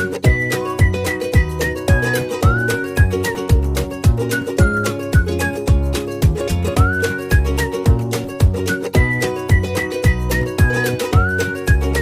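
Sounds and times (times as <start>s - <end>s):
whistle-like gliding melody: 0.0s - 3.5s, 4.2s - 5.9s, 6.7s - 12.0s
upbeat music with kick drum: 0.0s - 12.0s.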